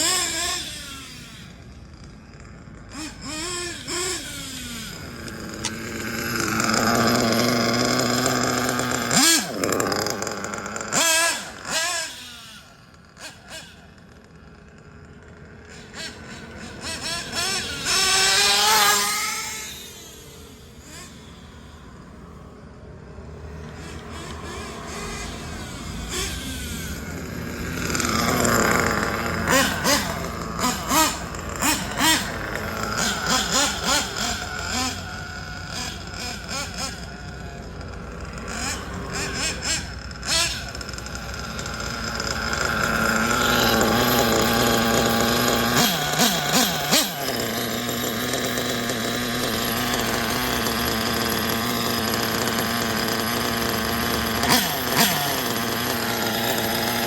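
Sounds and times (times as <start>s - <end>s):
rc car engine revving: 0.0s - 57.0s.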